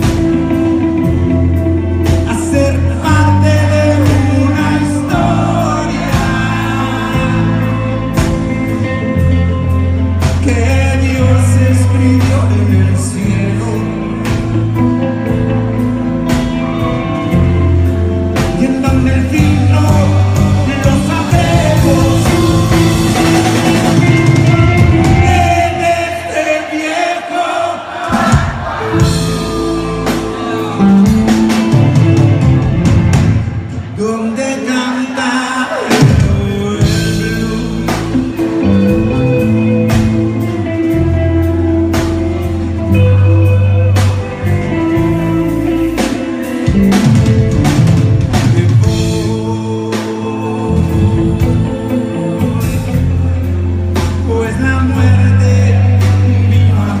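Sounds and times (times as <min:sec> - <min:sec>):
bass guitar: 0:00.0 - 0:26.7, 0:28.1 - 0:57.0
electric guitar: 0:00.0 - 0:26.7, 0:28.6 - 0:57.0
drum kit: 0:00.0 - 0:27.0, 0:27.9 - 0:34.8, 0:35.7 - 0:57.0.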